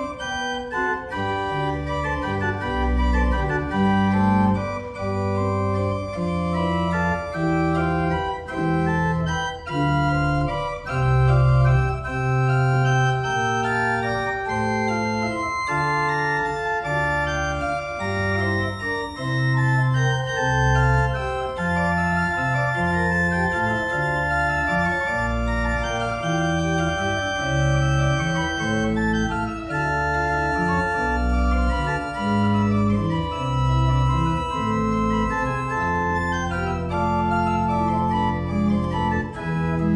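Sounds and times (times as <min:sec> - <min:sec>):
pipe organ playing sustained chords: 0:00.0 - 0:39.9.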